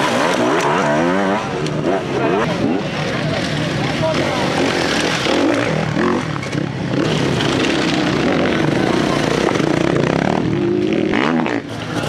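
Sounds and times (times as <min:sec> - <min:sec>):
dirt-bike engines revving: 0:00.0 - 0:12.0.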